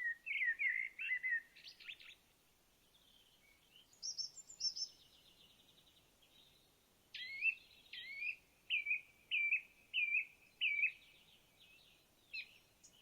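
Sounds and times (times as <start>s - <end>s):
bird chirping: 0.0s - 2.2s, 2.8s - 13.0s.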